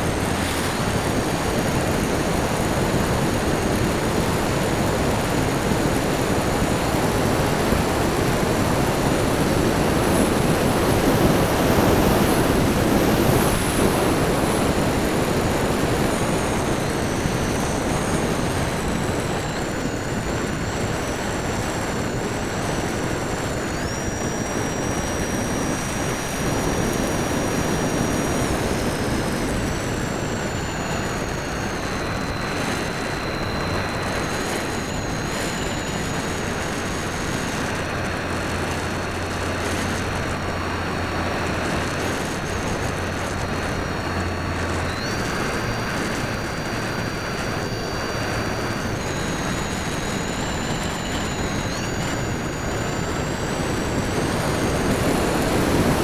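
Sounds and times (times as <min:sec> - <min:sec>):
airflow and propeller noise: 0:00.0 - 0:56.0
high motor whine: 0:00.0 - 0:56.0.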